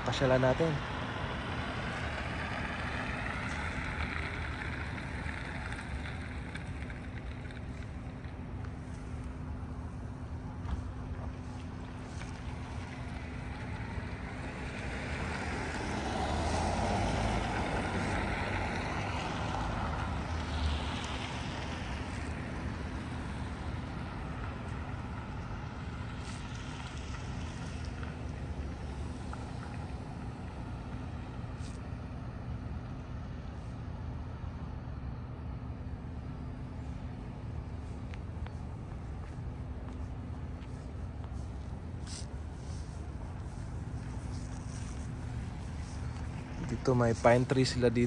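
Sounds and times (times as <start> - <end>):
car passing: 0.0 - 48.0
steady low rumble: 0.0 - 48.0.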